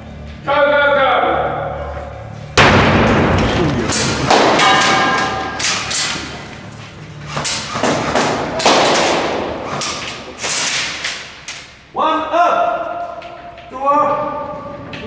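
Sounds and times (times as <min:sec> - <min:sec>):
heavy echoing impacts: 0:01.0 - 0:15.0.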